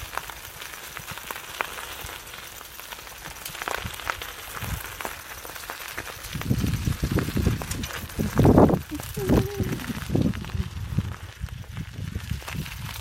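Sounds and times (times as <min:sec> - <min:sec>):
rustling through wet grass and leaves: 0:00.0 - 0:13.0.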